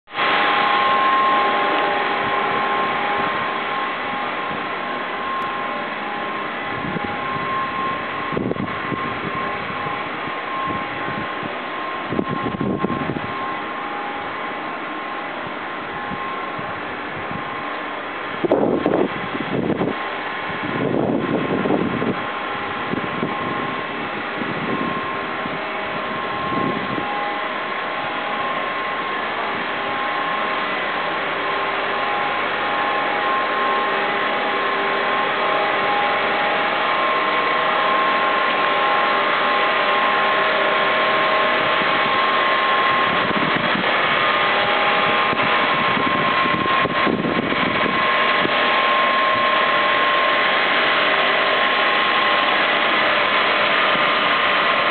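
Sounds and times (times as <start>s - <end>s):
constant whining tones: 0.1s - 54.9s
machinery mechanical hum: 0.1s - 54.9s
rushing noise: 0.1s - 54.9s.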